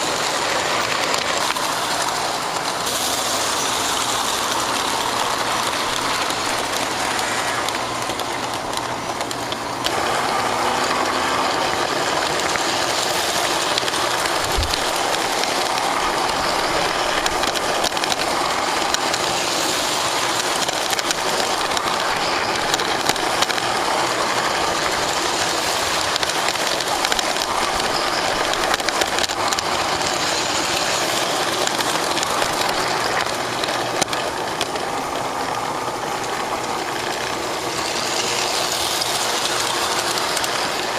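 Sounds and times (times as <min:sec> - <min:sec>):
model train motor and wheels rattling: 0:00.0 - 0:40.9.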